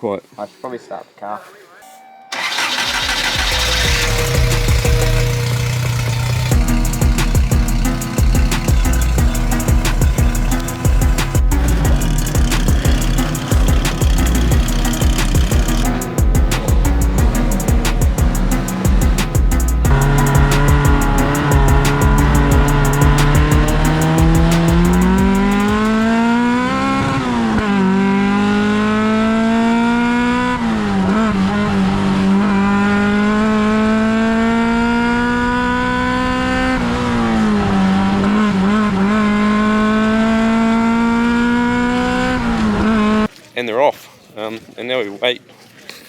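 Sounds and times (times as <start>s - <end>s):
race car engine revving hard: 2.3s - 43.3s.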